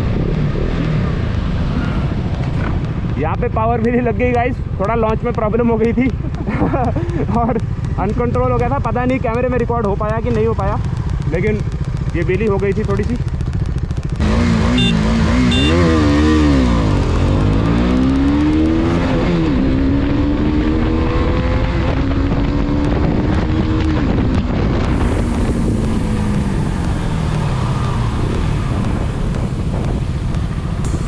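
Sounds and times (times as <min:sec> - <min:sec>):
motorcycle engine revving: 0:00.0 - 0:31.0
steady rushing noise: 0:00.0 - 0:31.0.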